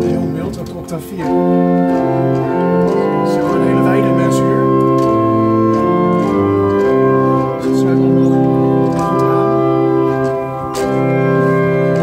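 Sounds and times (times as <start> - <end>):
pipe organ chords: 0.0 - 12.0.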